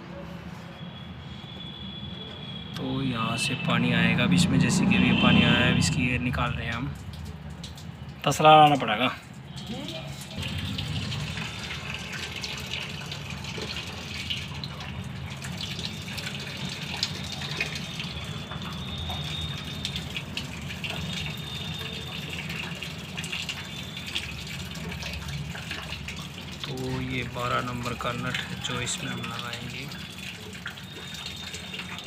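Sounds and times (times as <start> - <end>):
coolant running and splashing: 0.8 - 32.0.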